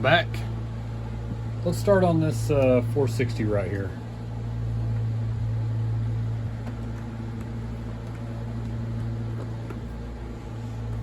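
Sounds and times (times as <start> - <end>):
fan motor humming: 0.0 - 11.0.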